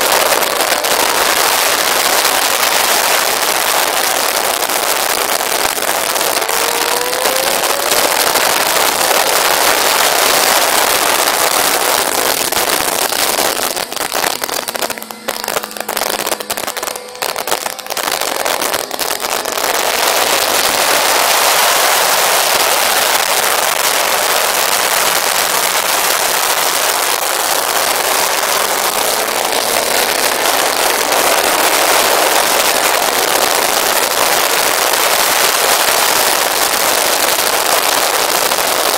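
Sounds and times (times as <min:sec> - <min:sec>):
motorcycle engine accelerating: 0:00.0 - 0:34.6
wind noise over microphone: 0:00.0 - 0:37.7.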